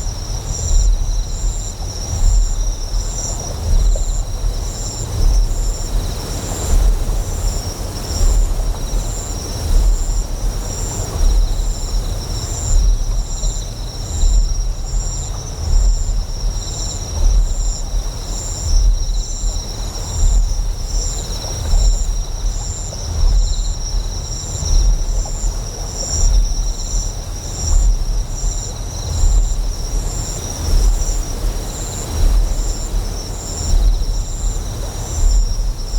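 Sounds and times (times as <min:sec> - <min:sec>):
high insect chirping: 0:00.0 - 0:35.9.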